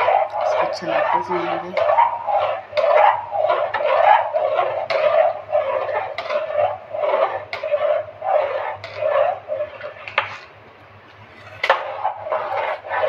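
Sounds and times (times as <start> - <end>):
metal ladle scraping a pot: 0.0 - 10.5, 11.2 - 13.0.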